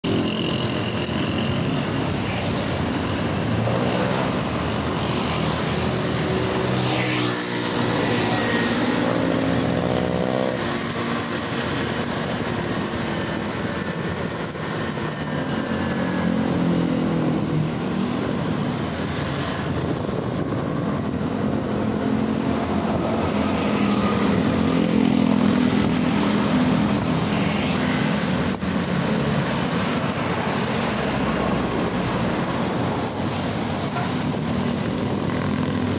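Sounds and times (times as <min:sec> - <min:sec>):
road noise rushing: 0:00.0 - 0:35.9
vehicle engines running: 0:00.0 - 0:35.9.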